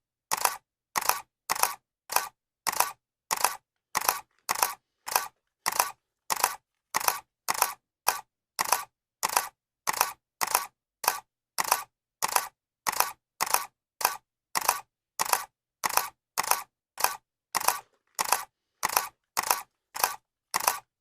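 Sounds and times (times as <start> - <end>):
camera shutter clicking: 0.3 - 20.8.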